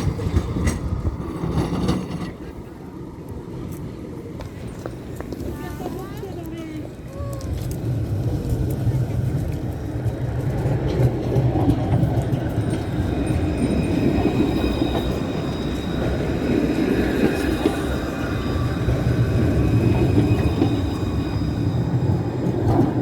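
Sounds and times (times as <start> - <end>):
tram rumbling past: 0.0 - 23.0.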